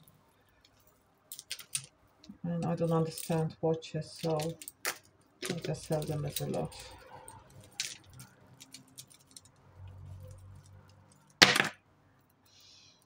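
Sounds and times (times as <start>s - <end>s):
metal jewellery clinking: 0.6s - 12.5s
chain necklace rattling: 0.7s - 11.4s.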